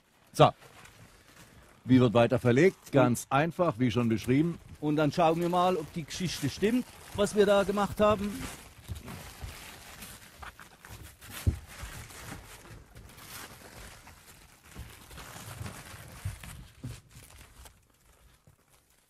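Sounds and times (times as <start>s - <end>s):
plastic sheet rustling: 0.0s - 19.0s.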